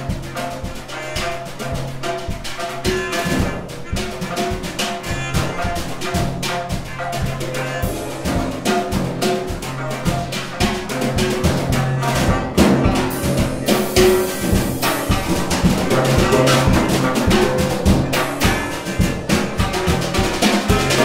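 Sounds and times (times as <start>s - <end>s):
drum hits: 0.0s - 21.0s
held pitched notes: 0.0s - 21.0s.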